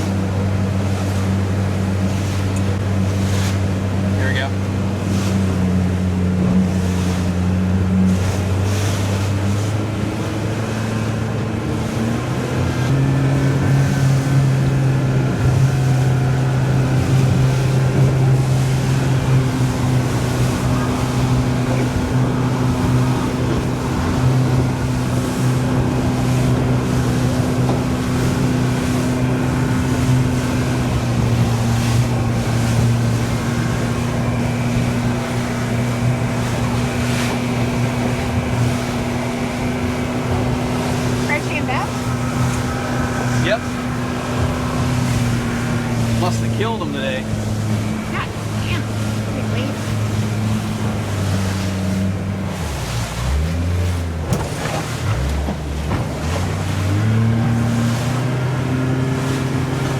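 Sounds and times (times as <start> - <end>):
motorboat engine running: 0.0 - 59.9
wind and water rushing: 0.0 - 59.9.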